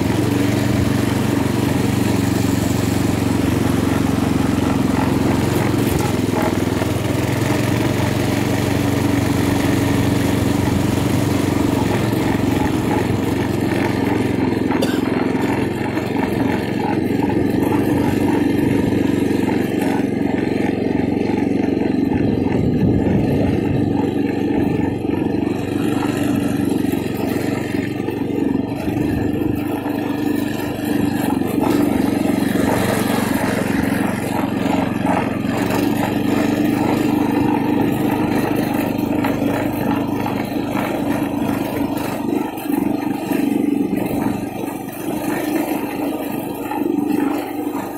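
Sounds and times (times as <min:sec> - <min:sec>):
mini bike engine running: 0:00.0 - 0:47.9.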